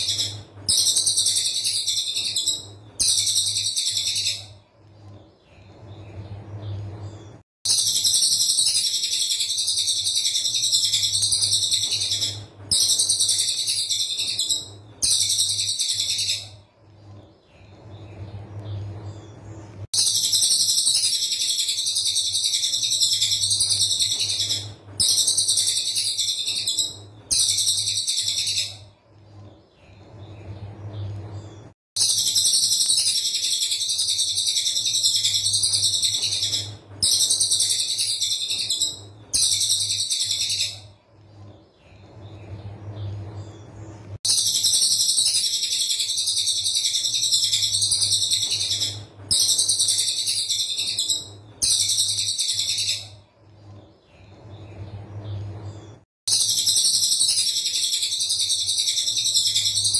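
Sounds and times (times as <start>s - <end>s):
steady low hum: 0.0s - 50.4s.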